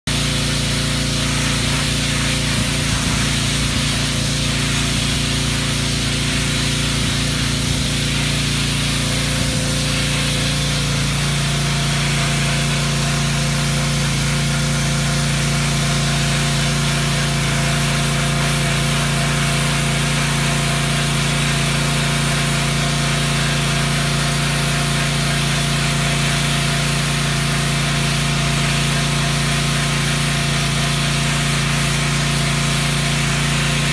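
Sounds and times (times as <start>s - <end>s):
motor and pump humming: 0.0s - 33.9s
pressure washer spray hissing: 0.1s - 33.9s.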